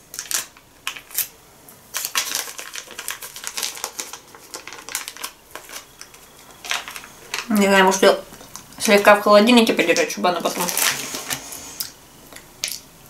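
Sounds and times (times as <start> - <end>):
plastic packet crinkling: 0.0 - 11.9.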